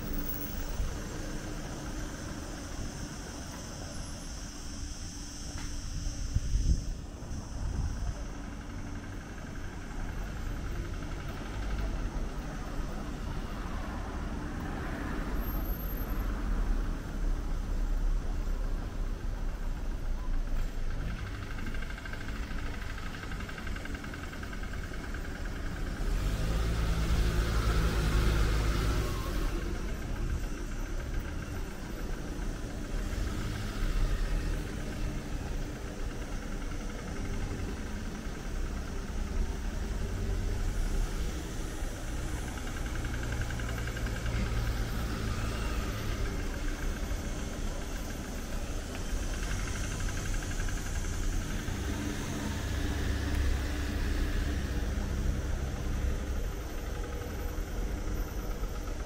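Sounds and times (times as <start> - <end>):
car engines passing and idling: 0.0 - 59.0.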